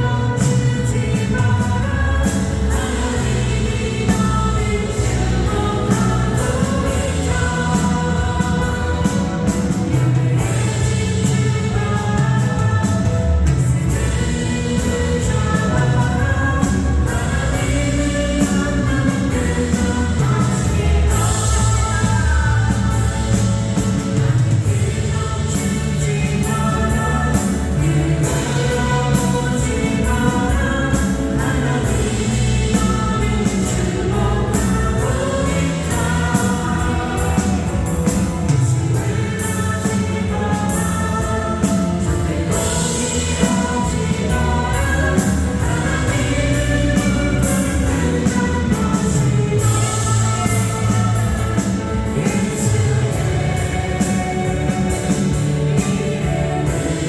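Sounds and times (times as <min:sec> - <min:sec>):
band playing steady beat: 0:00.0 - 0:57.0
group singing: 0:00.0 - 0:57.0.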